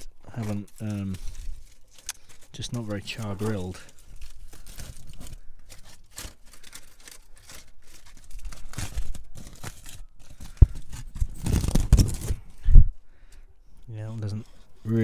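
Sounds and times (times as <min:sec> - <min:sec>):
aluminium foil crinkling: 0:00.0 - 0:12.5.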